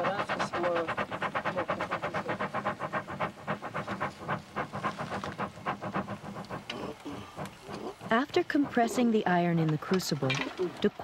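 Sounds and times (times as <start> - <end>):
bellows puffing air: 0.0 - 9.3.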